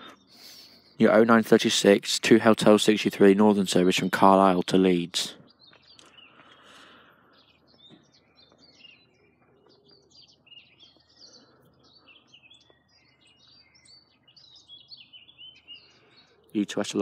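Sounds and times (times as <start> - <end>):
faint birdsong chirps and trills: 0.0 - 17.0.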